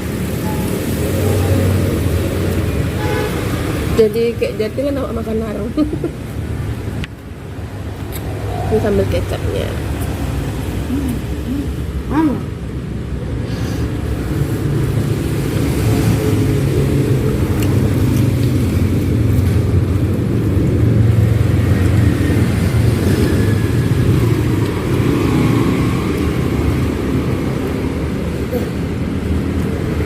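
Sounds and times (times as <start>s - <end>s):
traffic passing on road: 0.0s - 30.0s.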